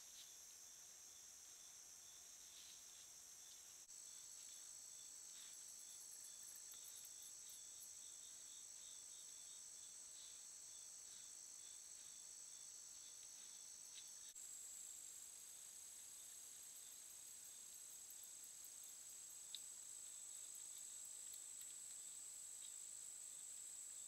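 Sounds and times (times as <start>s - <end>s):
crickets trilling: 0.0s - 24.0s
insect chirping: 0.0s - 24.0s.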